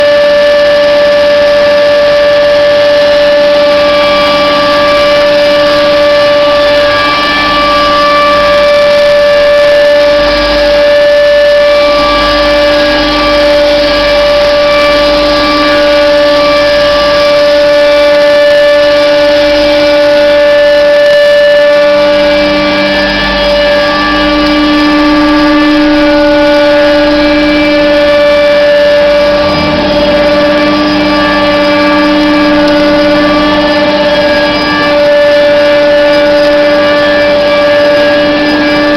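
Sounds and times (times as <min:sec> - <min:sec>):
pipe bending machine whining: 0:00.0 - 0:38.9.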